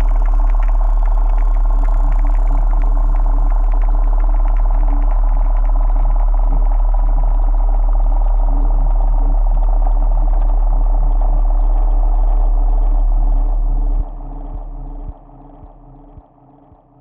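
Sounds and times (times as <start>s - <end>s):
deep drone with held tones: 0.0s - 17.0s.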